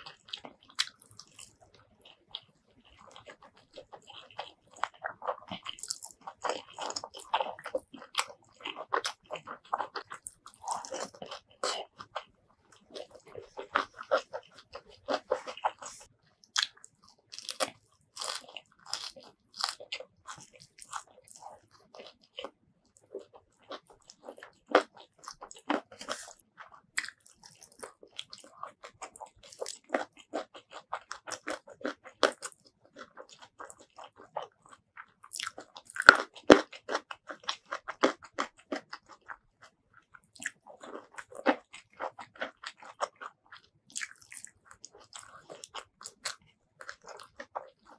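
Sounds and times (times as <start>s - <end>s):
chewing crunchy food: 0.0s - 47.9s.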